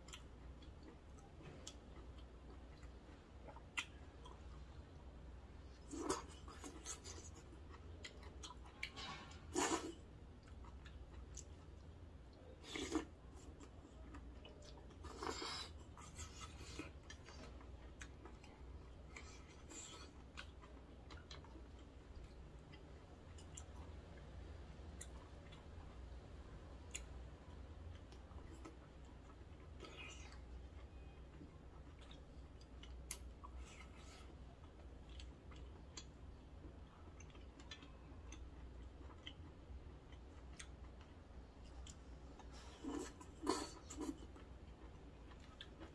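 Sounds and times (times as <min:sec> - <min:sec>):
chewing with small clicks: 0:00.0 - 0:45.9.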